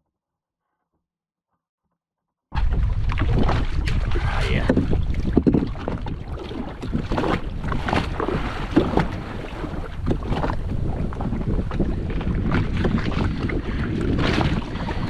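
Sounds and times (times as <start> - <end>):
water slapping against hull: 2.6 - 15.0
wind buffeting microphone: 2.6 - 15.0.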